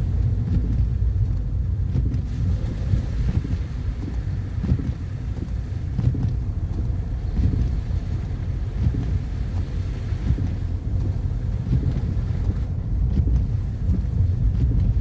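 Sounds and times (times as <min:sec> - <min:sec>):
car driving on snowy road: 0:00.0 - 0:15.0.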